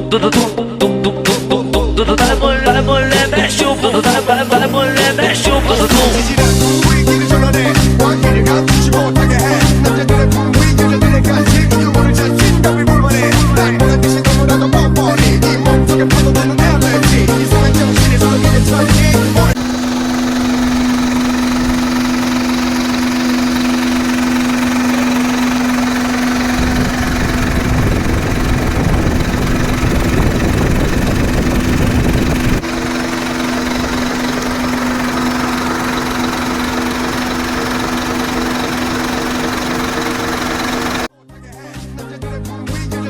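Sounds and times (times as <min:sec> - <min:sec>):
diesel truck engine running: 0:04.5 - 0:41.1.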